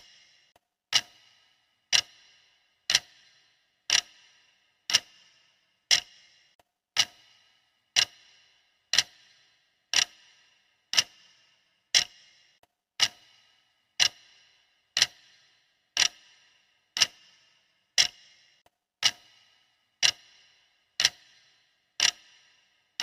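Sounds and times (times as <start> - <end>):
clock ticking with ringing tail: 0.0 - 23.0.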